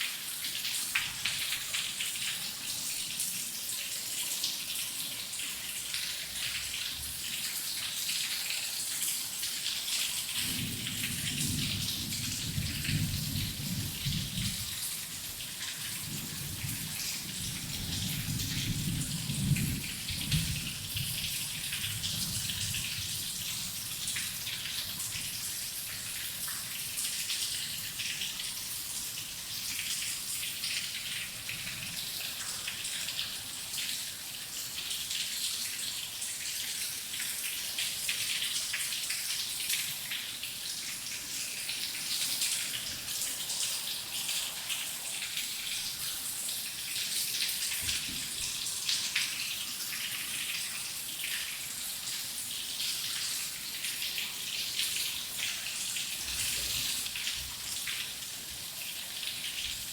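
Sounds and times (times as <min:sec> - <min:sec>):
rain drops pattering: 0:00.1 - 0:59.9.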